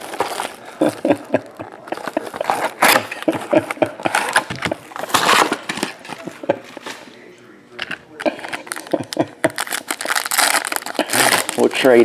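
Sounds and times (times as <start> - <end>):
plastic shrink-wrap crinkling: 0.0 - 7.0, 8.2 - 12.0.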